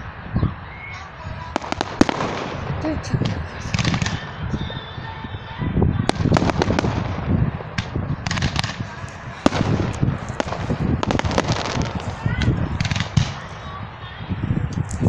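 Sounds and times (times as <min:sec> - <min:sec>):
fireworks bangs and crackles: 0:00.9 - 0:15.0.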